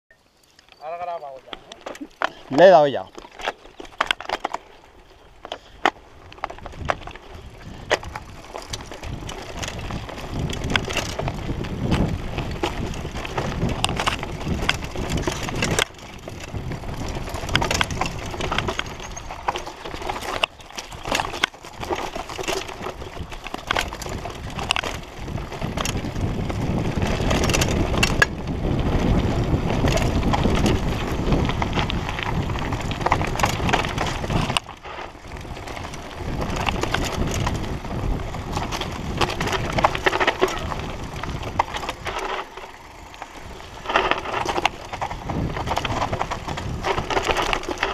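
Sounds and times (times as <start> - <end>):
bike rattling over bumps: 0.2 - 47.9
bike tyres rumbling over dirt: 0.3 - 47.9.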